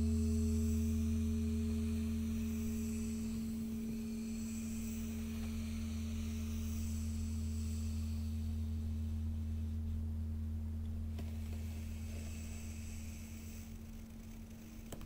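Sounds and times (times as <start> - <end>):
low drone of held tones: 0.0 - 15.0.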